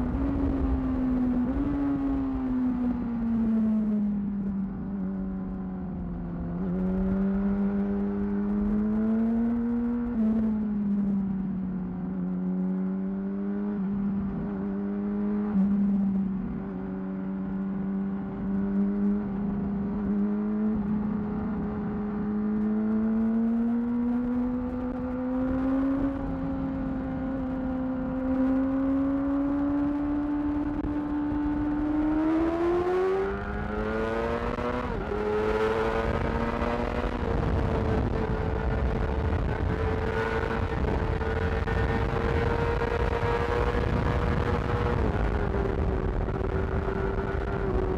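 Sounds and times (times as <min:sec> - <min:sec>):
motorcycle engine revving: 0:05.9 - 0:11.2, 0:11.9 - 0:47.9.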